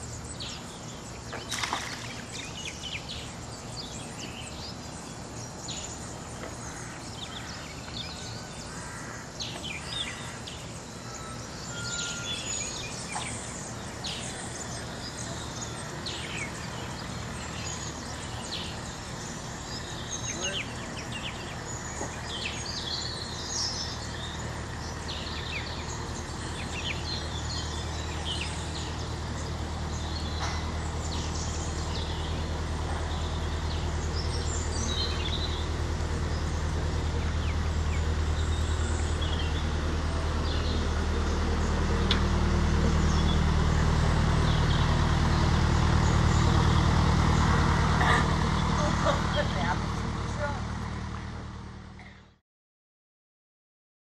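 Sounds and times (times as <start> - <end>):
birds chirping and singing: 0.0 - 50.8
boat engine running: 0.0 - 52.3.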